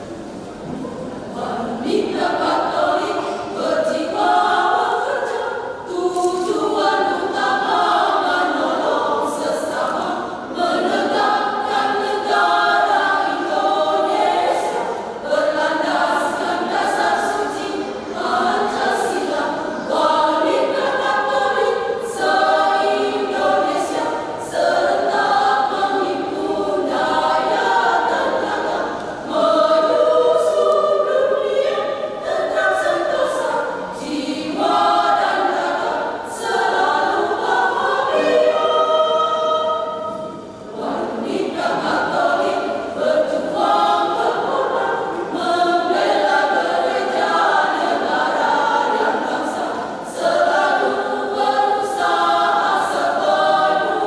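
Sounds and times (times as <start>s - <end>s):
women's choir singing: 0.0s - 54.0s.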